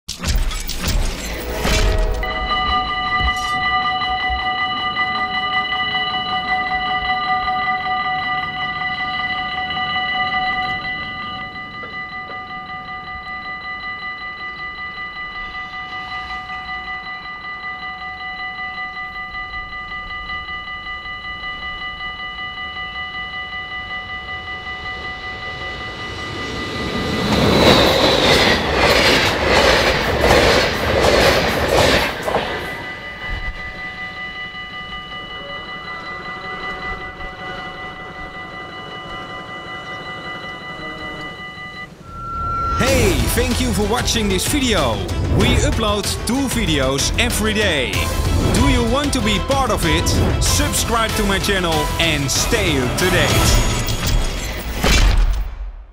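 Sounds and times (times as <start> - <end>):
level crossing warning bells: 0.5 - 54.8.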